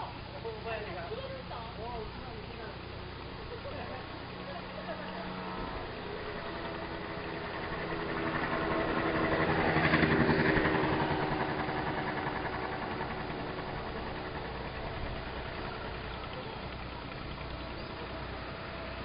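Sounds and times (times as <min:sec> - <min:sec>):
boat engine passing: 0:00.0 - 0:19.0.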